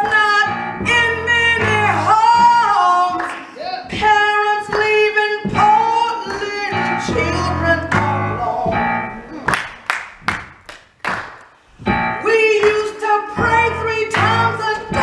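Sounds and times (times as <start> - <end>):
person singing gospel: 0.0 - 9.5, 12.2 - 15.0.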